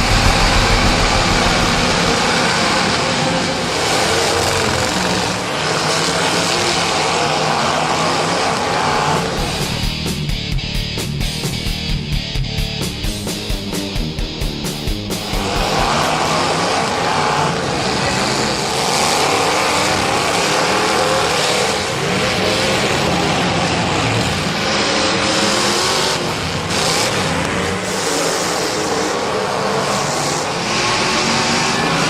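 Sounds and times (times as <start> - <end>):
cars passing: 0.0 - 10.1, 15.2 - 32.0
race car engines revving: 0.0 - 32.0.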